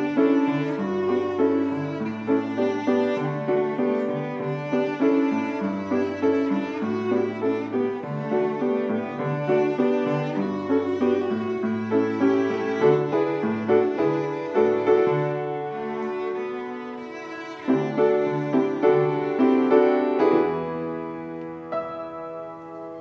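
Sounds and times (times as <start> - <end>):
cello bowed low notes: 0.0 - 23.0
piano accompaniment: 0.0 - 23.0.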